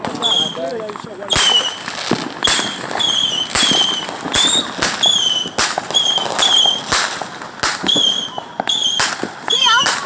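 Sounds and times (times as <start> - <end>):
fireworks whistling: 0.0 - 10.0.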